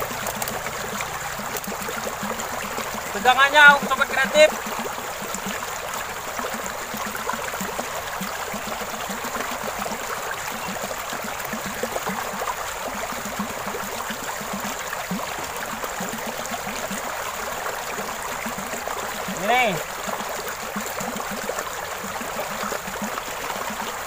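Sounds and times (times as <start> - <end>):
stream water rushing and gurgling: 0.0 - 24.0.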